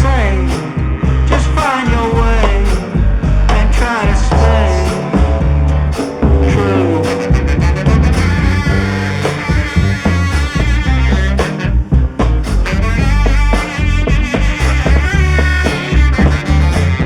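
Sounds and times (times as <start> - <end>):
instrumental rock music: 0.0 - 17.0.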